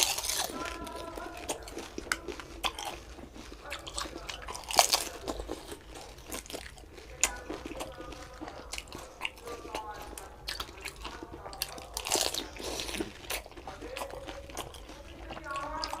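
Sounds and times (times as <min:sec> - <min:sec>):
crunchy food chewing: 0:00.0 - 0:16.0.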